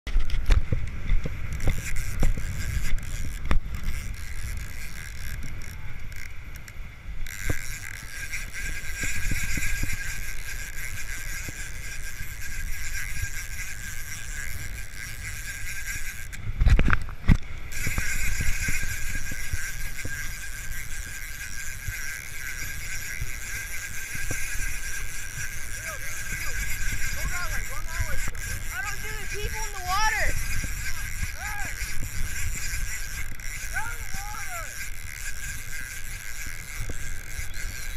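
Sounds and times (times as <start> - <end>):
fishing reel whirring: 0.1 - 37.9
wind buffeting microphone: 7.0 - 37.9.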